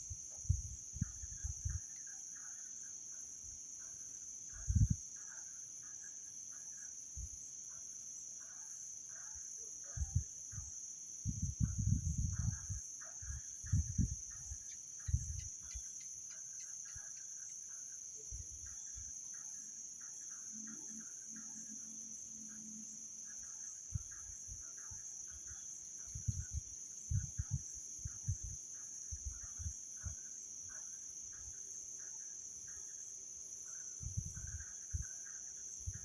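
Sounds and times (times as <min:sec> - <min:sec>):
high-pitched insect drone: 0:00.0 - 0:36.0.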